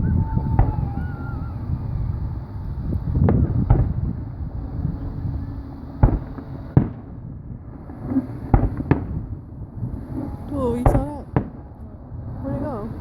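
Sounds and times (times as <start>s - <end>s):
fireworks bangs: 0.0s - 11.7s
low rumble: 0.0s - 13.0s.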